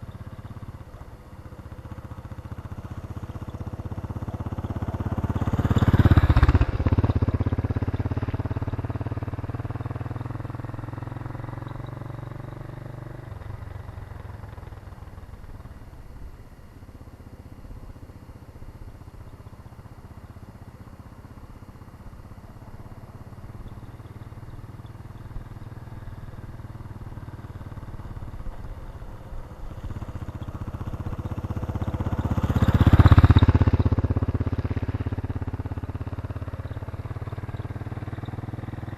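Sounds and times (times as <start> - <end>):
motorcycle passing by: 0.0 - 38.9.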